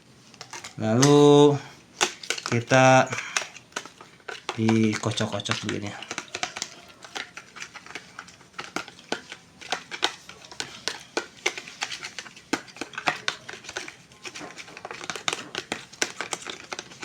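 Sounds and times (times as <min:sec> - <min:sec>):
spoon clinking in container: 0:02.0 - 0:17.0.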